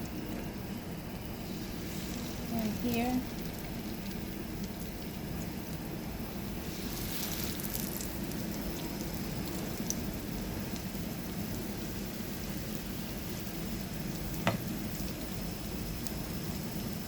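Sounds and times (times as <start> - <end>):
patties sizzling in oil: 0.0 - 17.0.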